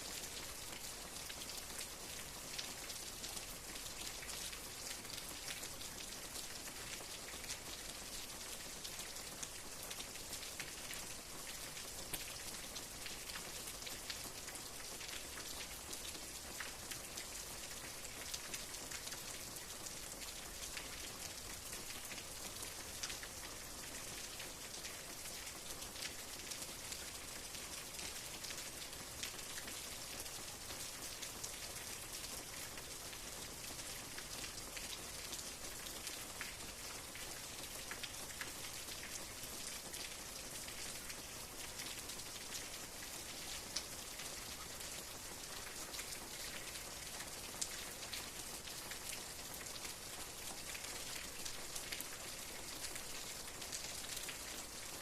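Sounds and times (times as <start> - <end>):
steady rain: 0.0 - 55.0
raindrops ticking on a surface: 0.1 - 55.0.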